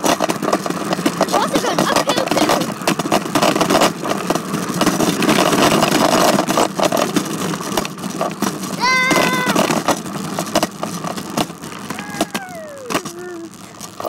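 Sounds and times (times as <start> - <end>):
bicycle riding rush: 0.0 - 14.0.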